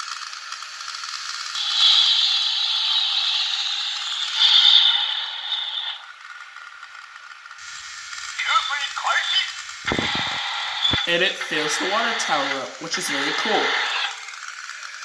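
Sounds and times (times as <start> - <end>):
toy train motor whirring: 0.0 - 15.0.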